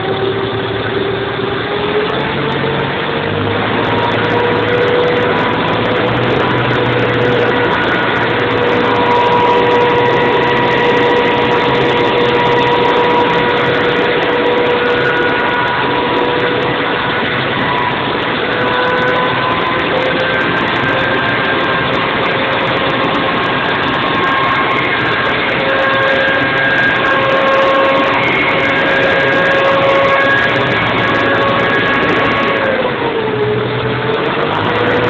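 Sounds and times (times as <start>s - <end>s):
compressor running: 0.0s - 35.0s
high steady whistle: 3.7s - 35.0s.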